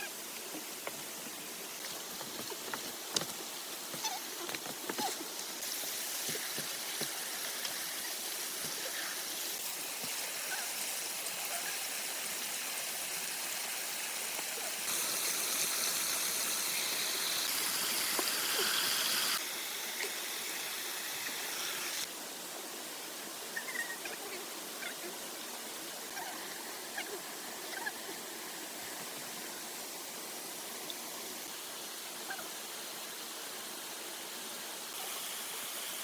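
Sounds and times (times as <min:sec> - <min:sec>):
running water hiss: 0:00.0 - 0:36.0.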